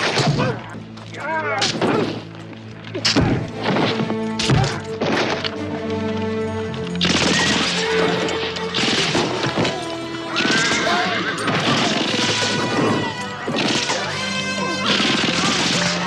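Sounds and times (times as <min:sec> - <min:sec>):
film score with sustained notes: 0:00.0 - 0:16.0.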